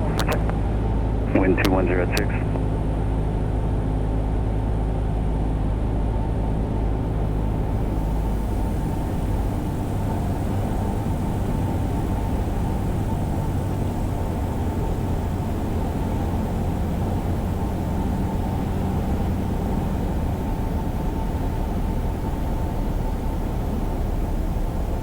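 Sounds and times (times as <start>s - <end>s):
airplane engine and propeller droning: 0.0s - 25.0s.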